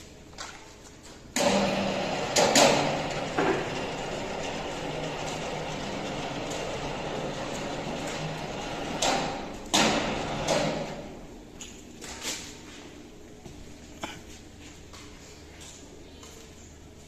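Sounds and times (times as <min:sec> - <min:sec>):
furnace roaring: 0:00.0 - 0:15.6.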